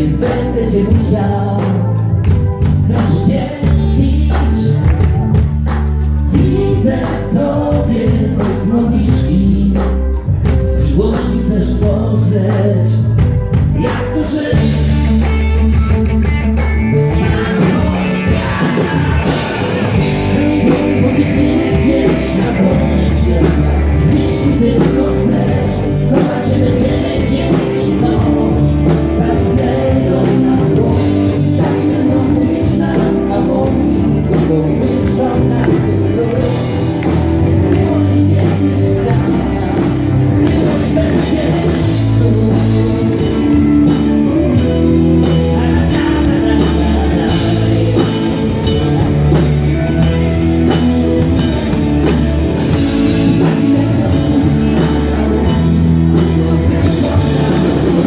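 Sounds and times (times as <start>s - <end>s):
bass guitar: 0.0s - 58.0s
drums: 0.0s - 58.0s
electric guitar: 0.0s - 58.0s
person singing lead vocals: 0.0s - 58.0s.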